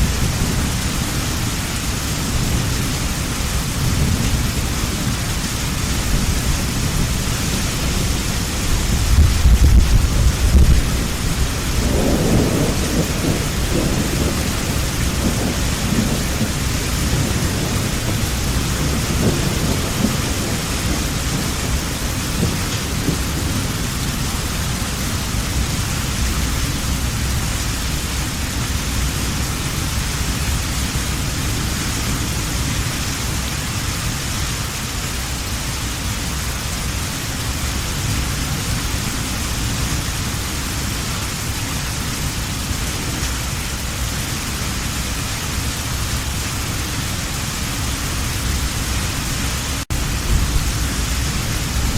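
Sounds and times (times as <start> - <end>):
thunder rumbling: 0.0 - 33.4, 37.3 - 51.9
heavy rain falling: 0.0 - 51.9.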